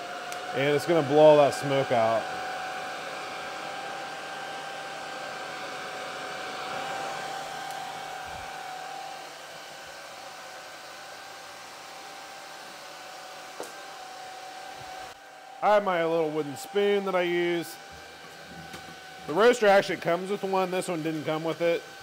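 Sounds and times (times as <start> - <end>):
cooling fan blowing with whine: 0.0 - 22.0.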